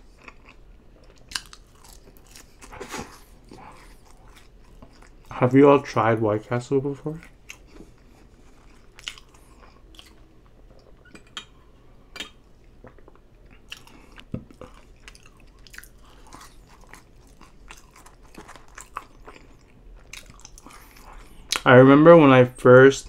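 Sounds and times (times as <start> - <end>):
person chewing food: 0.0 - 5.3, 7.1 - 21.7.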